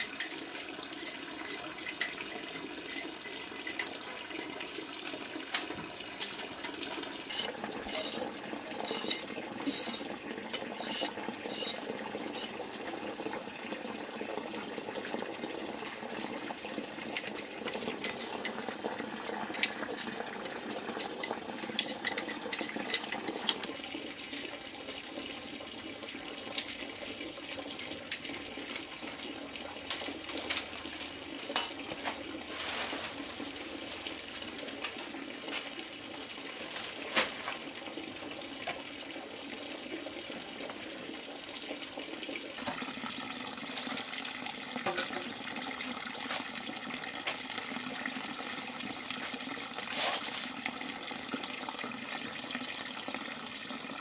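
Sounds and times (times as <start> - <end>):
water running: 0.0 - 54.0.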